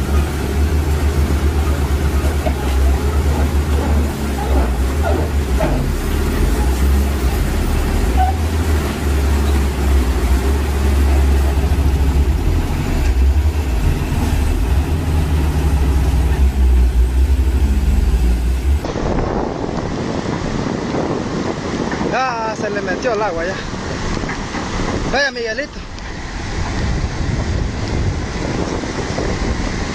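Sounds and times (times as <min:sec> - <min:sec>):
excavator diesel engines rumbling: 0:00.0 - 0:29.9
rushing floodwater: 0:00.0 - 0:29.9
wind: 0:00.0 - 0:29.9.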